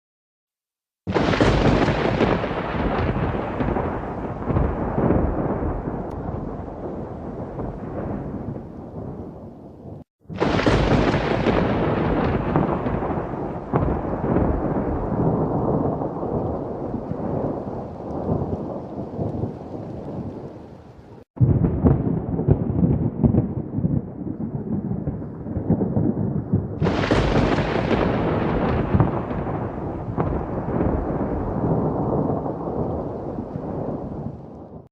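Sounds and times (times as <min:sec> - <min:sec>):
thunder clap: 0:01.1 - 0:34.9
thunder rumbling: 0:01.1 - 0:34.9.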